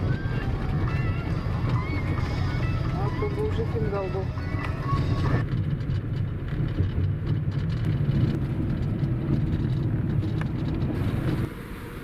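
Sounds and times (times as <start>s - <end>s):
car road noise on gravel: 0.0s - 12.0s.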